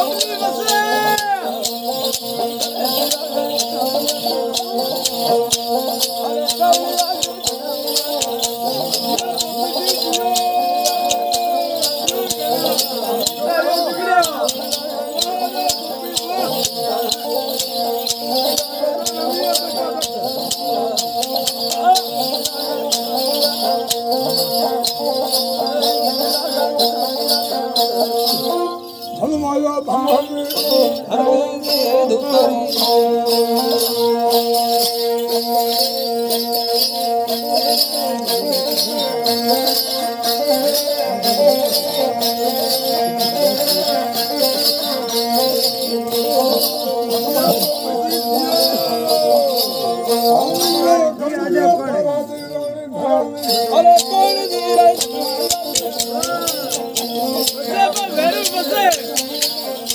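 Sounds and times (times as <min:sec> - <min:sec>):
bowed fiddle folk melody: 0:00.0 - 0:51.1
bells jingling: 0:00.0 - 0:59.9.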